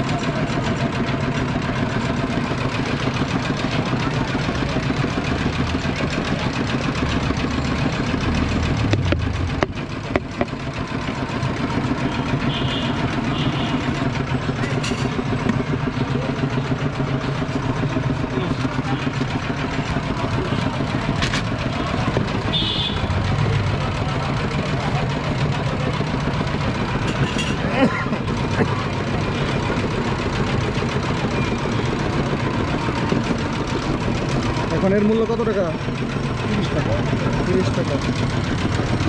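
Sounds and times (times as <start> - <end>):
engines idling and running: 0.0 - 39.0
street traffic: 0.0 - 39.0.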